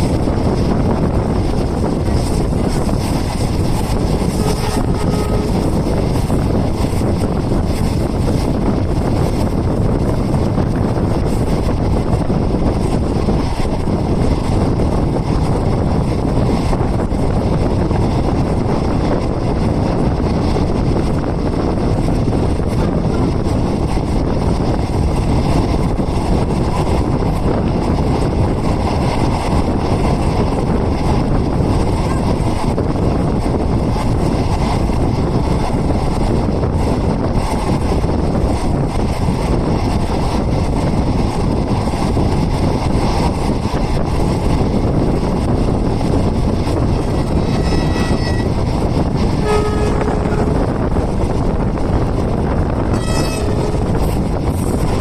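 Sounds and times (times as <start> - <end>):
train running rumble: 0.0 - 55.0
wind rushing: 0.0 - 55.0.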